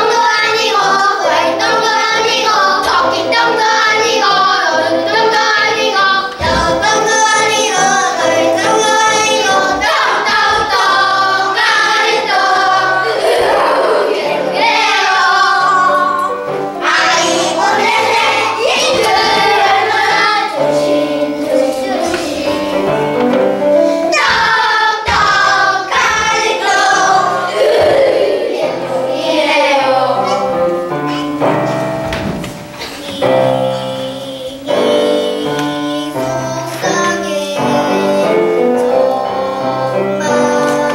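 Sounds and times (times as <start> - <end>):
children singing in unison: 0.0 - 40.9
instrumental accompaniment: 0.0 - 40.9.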